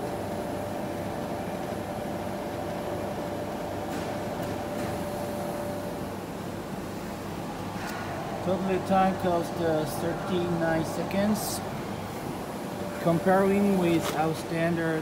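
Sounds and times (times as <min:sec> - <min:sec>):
machine fans humming: 0:00.0 - 0:15.0.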